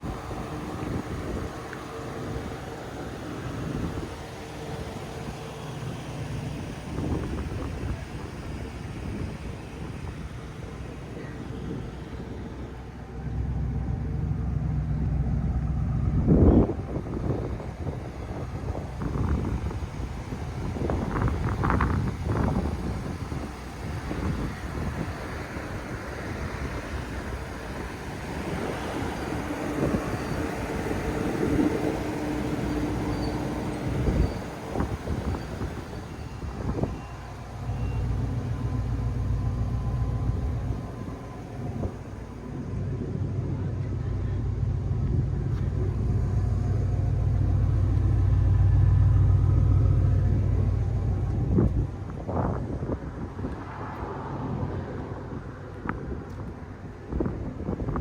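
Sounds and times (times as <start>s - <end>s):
truck engine rumbling: 0.0s - 58.0s
wind buffeting microphone: 0.0s - 58.0s.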